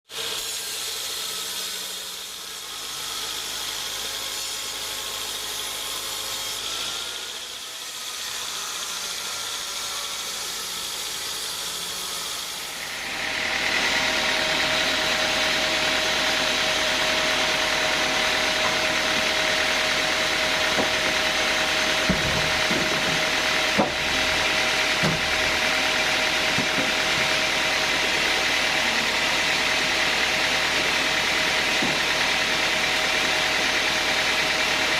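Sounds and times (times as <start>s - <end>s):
band saw machinery running: 0.1s - 34.9s.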